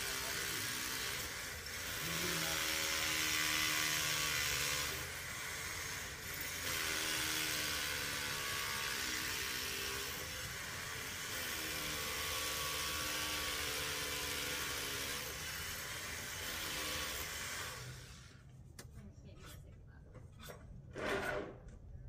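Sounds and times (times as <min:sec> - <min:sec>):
hammer drill boring into concrete: 0:00.0 - 0:18.3.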